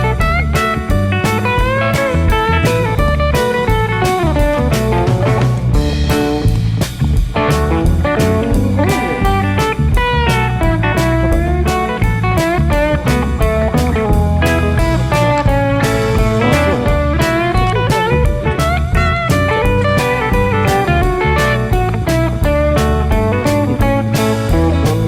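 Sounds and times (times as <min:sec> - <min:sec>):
blues electric guitar music: 0:00.0 - 0:25.0.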